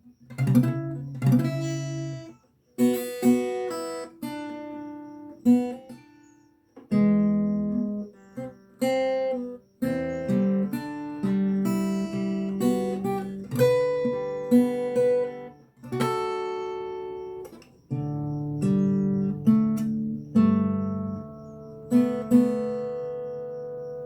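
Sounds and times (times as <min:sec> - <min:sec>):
fingerstyle acoustic guitar: 0:00.0 - 0:24.0.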